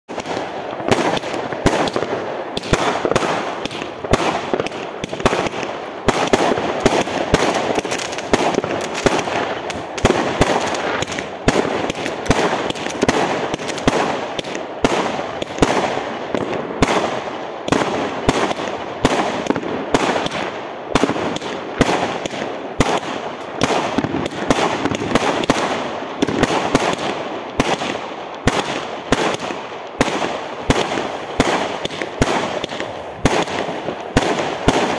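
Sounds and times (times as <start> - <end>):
fireworks bangs and cracks: 0.1 - 34.9
fireworks crackling: 0.1 - 34.9
shells bursting overhead: 0.1 - 34.9.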